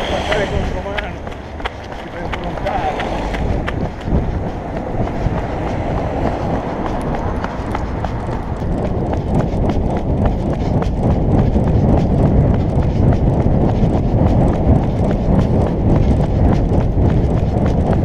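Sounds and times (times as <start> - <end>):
running footsteps on asphalt: 0.0 - 18.0
wind rumbling on microphone: 0.0 - 18.0.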